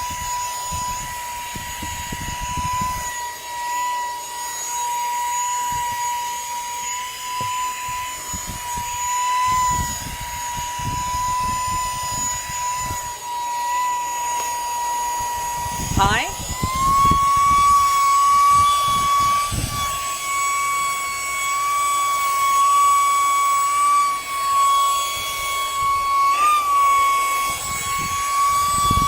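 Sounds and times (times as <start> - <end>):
handheld vacuum motor whine: 0.0 - 29.0.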